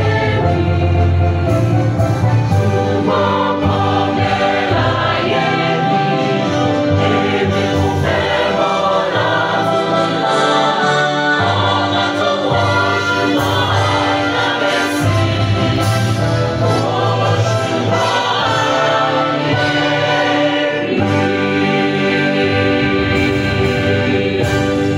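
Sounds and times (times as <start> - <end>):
choir singing a gospel song: 0.0 - 24.9.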